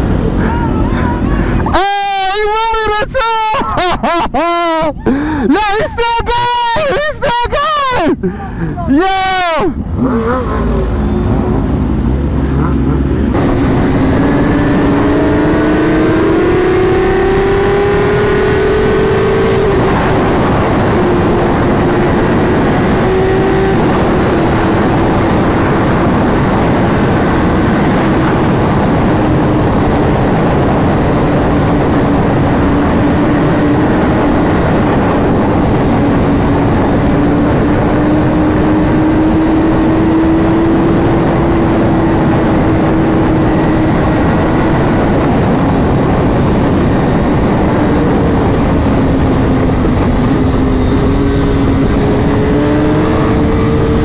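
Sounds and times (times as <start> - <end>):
motorcycle engine: 0.0 - 2.3, 8.3 - 54.0
wind noise: 0.0 - 54.0.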